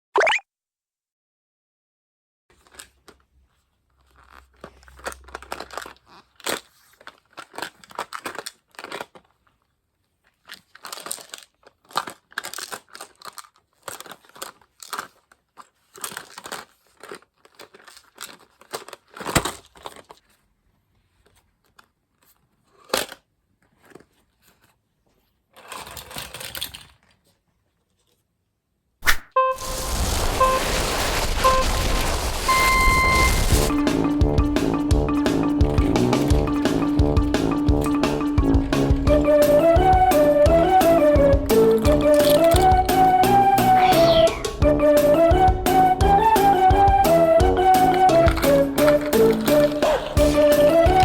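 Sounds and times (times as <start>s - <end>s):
toys crinkling and rustling: 2.5s - 28.6s, 29.6s - 33.8s, 35.7s - 36.8s, 38.6s - 44.7s, 47.1s - 51.0s.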